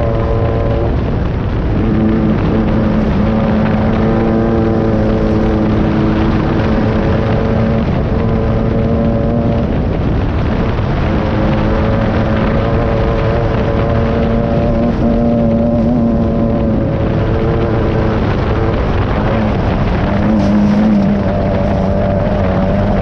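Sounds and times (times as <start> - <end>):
race buggy engine running: 0.0 - 23.0
steady rush of noise: 0.0 - 23.0.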